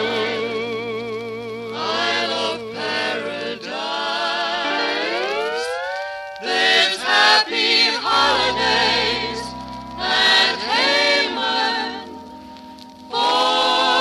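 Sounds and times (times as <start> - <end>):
old-style pop song: 0.0 - 5.6, 6.4 - 14.0.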